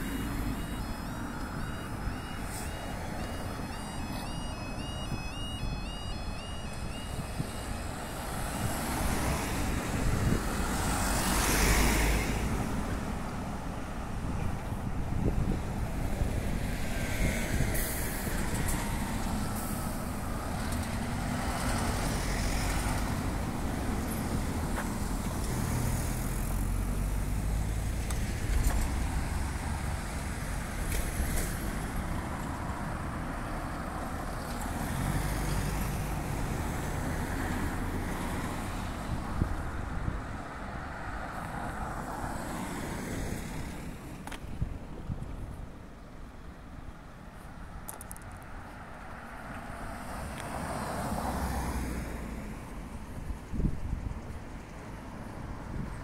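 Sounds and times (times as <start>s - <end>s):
cars driving past: 0.0s - 14.3s, 14.9s - 44.6s, 47.9s - 56.0s.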